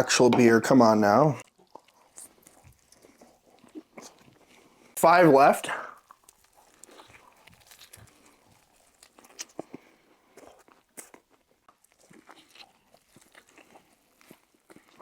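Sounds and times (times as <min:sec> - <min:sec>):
chewing and biting sandwich: 0:01.4 - 0:05.0, 0:05.9 - 0:15.0.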